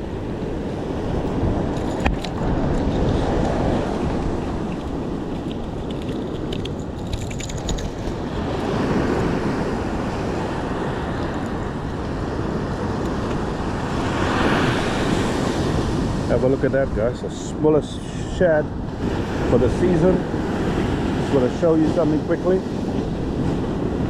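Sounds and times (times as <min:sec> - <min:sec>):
surf washing: 0:00.0 - 0:24.0
wind buffeting microphone: 0:00.0 - 0:24.0.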